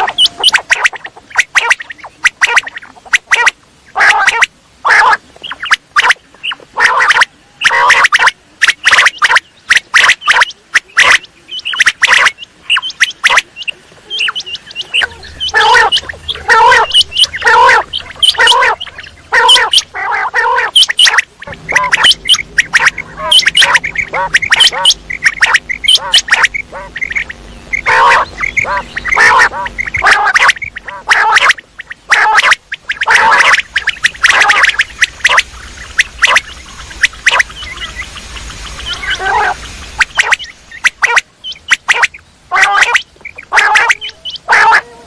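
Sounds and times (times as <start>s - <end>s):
faint low hum: 0.0s - 45.0s
quail calling: 0.0s - 45.0s.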